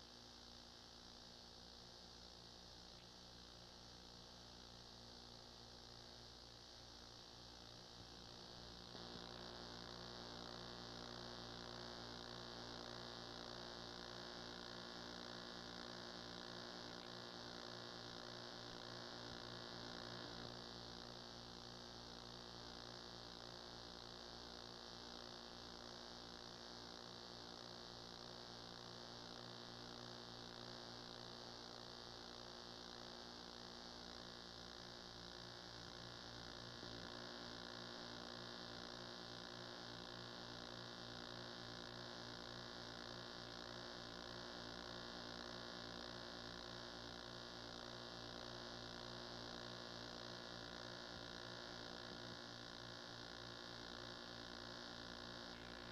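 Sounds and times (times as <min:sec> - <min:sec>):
faint electrical mains hum: 0:00.0 - 0:55.9.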